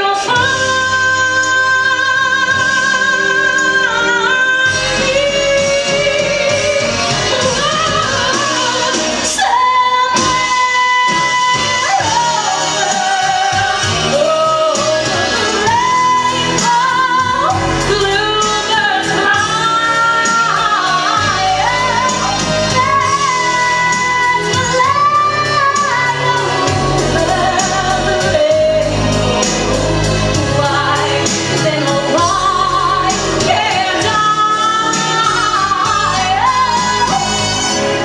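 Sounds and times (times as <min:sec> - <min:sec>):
band playing steady beat: 0:00.0 - 0:38.0
woman singing: 0:00.0 - 0:38.0.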